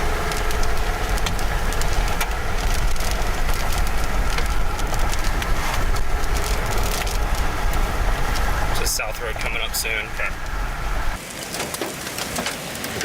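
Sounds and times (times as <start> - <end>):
rain ticking on vehicle: 0.0 - 13.0
wind and road noise: 0.0 - 13.0.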